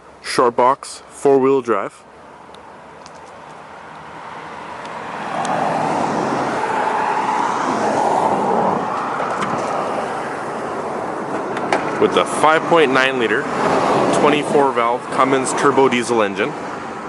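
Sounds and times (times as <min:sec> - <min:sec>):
vehicle passing on road: 0:02.1 - 0:17.0.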